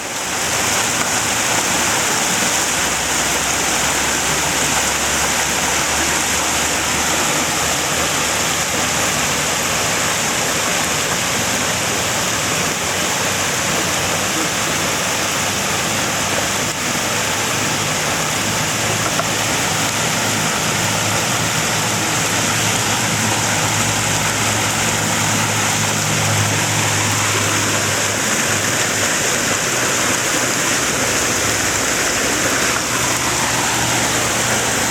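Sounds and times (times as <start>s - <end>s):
floodwater rushing through ditch: 0.0s - 34.9s.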